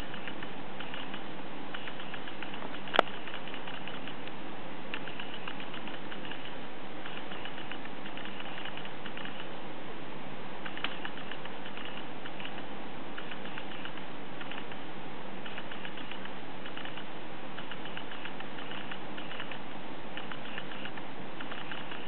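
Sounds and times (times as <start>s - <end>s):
small clicks and scratches: 0.0s - 9.5s, 10.6s - 14.8s, 15.4s - 19.6s, 20.2s - 22.0s
recording hiss: 0.0s - 22.0s.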